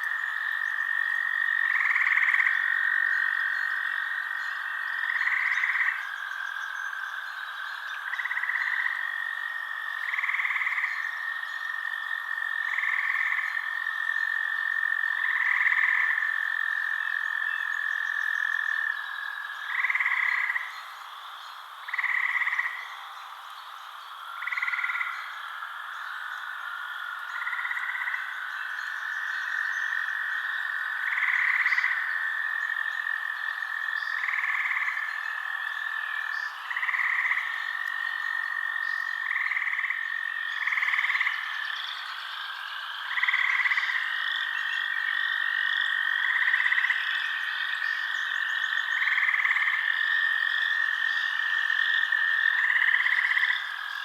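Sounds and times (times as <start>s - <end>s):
frog calls: 0.0s - 54.0s.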